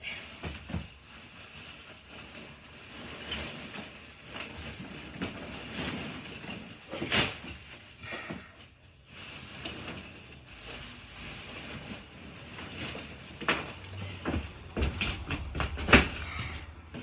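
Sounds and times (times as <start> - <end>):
paper bags dragged across floor: 0.0 - 17.0.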